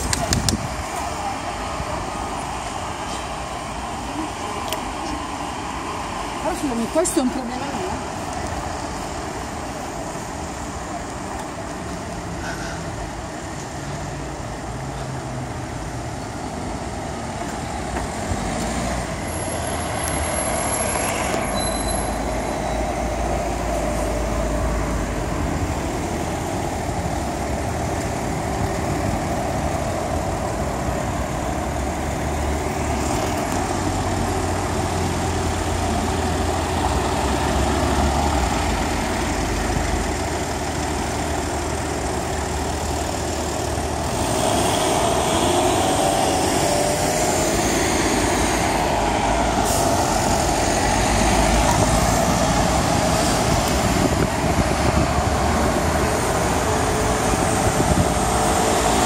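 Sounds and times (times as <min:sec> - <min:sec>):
car and bus engines idling: 0:00.0 - 0:59.0.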